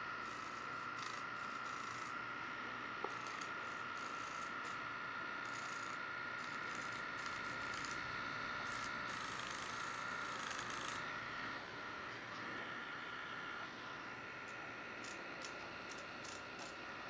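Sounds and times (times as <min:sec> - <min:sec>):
electric nail file whining: 0:00.0 - 0:17.0.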